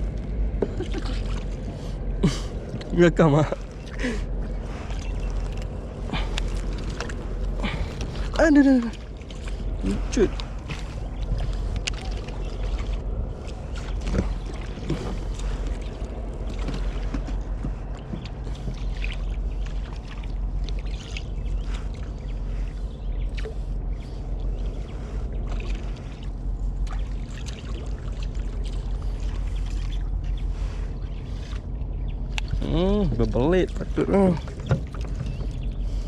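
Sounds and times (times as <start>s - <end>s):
steady low rumble: 0.0s - 36.0s
water sloshing against kayak hull: 0.0s - 36.0s.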